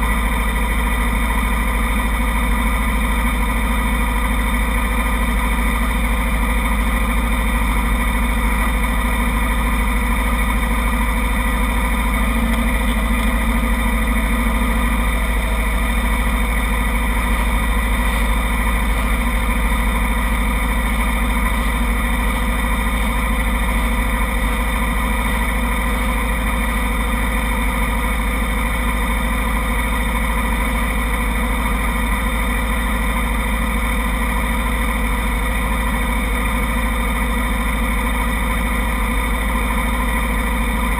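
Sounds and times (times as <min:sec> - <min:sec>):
motorcycle engines idling: 0:00.0 - 0:40.9.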